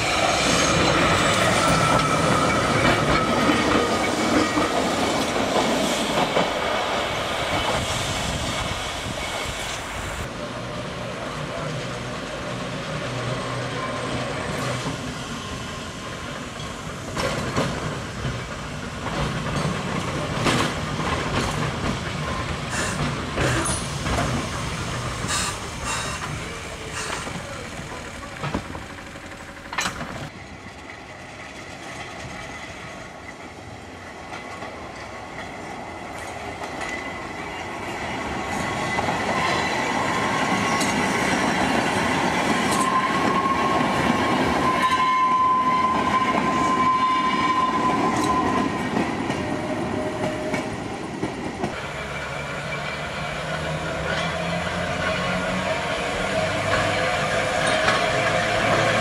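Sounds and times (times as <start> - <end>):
tram wheels clacking over rail joints: 0.0 - 10.0, 10.6 - 59.0
tram running smoothly: 0.0 - 59.0.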